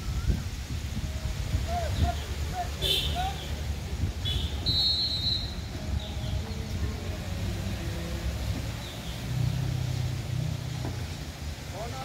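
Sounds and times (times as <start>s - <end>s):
low engine rumble: 0.8s - 12.0s.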